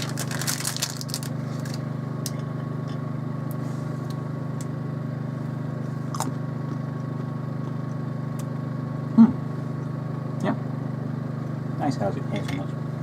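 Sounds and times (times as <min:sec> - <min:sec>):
low mechanical hum with flutter: 0:00.0 - 0:13.0.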